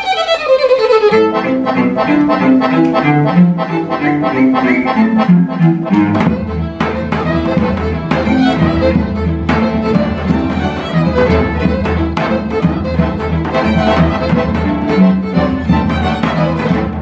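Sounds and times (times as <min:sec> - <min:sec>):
cello: 0:00.0 - 0:17.0
violins playing lively melody: 0:00.0 - 0:17.0.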